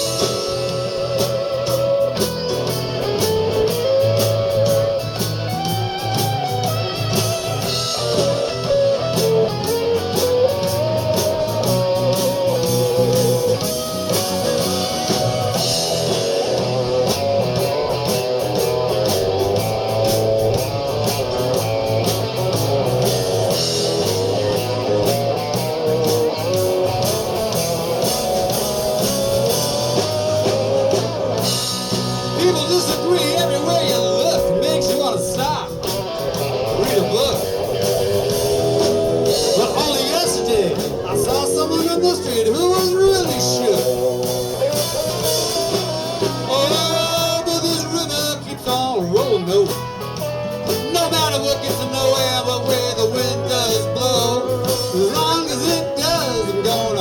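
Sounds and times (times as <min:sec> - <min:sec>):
blues-rock band playing: 0:00.0 - 0:57.0
electric guitar solo: 0:00.0 - 0:57.0.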